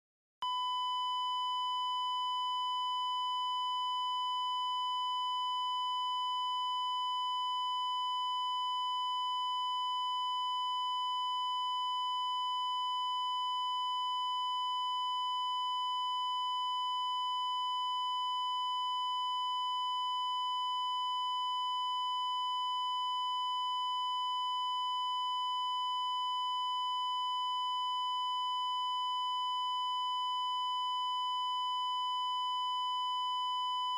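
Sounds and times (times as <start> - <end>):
flatline alarm beep: 0.4 - 33.9.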